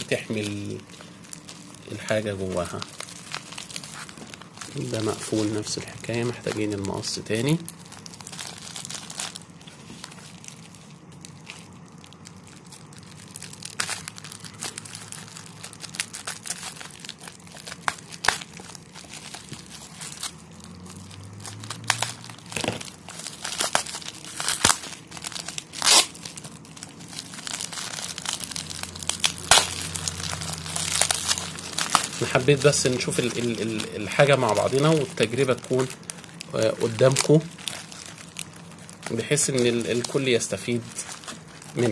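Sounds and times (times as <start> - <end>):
plastic bag crinkling: 0.0 - 41.9.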